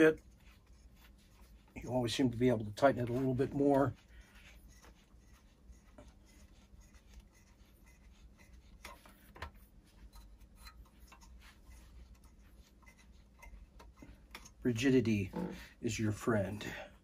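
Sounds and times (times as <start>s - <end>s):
tripod fitting rubbing and ticking: 0.0s - 15.6s.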